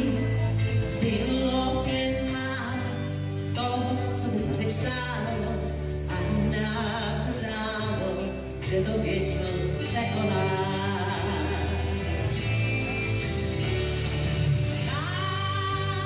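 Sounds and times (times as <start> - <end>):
band music: 0.0 - 16.0.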